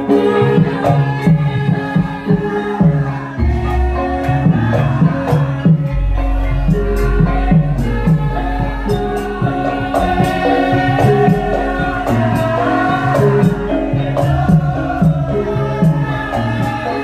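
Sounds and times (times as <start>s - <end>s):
metallophone notes: 0.0s - 17.0s.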